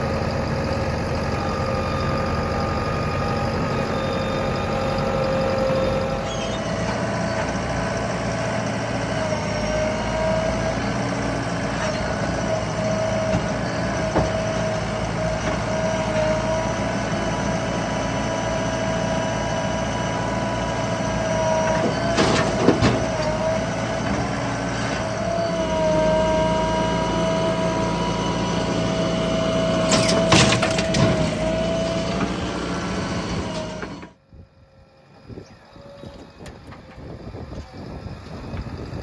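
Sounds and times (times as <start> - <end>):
diesel engine whining under load: 0.0 - 39.0.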